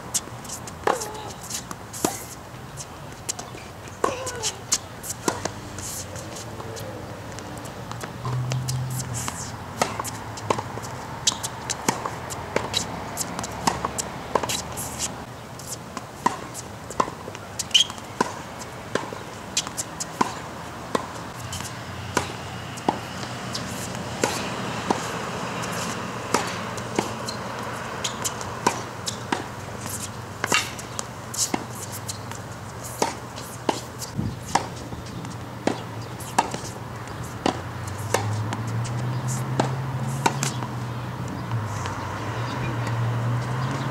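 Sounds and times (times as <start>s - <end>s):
rackets striking tennis balls: 0.0s - 43.0s
tennis balls bouncing on court: 0.0s - 43.9s.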